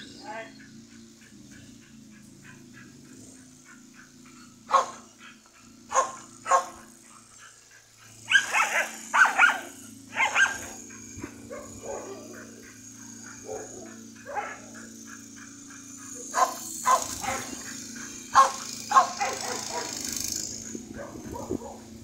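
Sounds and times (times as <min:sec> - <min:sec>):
dog barking: 0:02.2 - 0:10.8, 0:11.4 - 0:20.1, 0:21.0 - 0:21.9.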